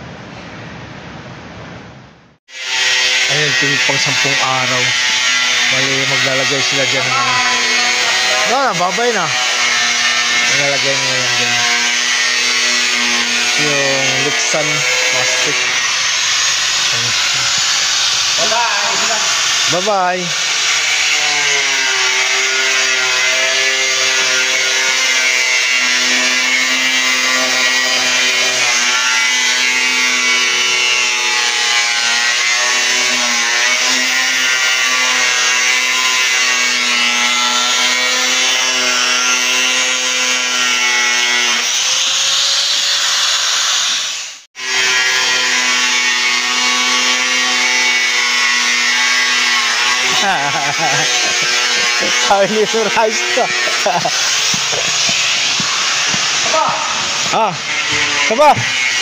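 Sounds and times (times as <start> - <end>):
angle grinder cutting plastic: 2.5 - 59.0.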